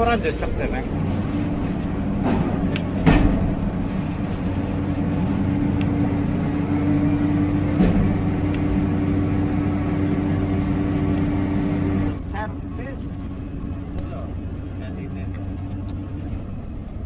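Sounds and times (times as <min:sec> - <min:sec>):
drilling rig engine humming: 0:00.0 - 0:17.0.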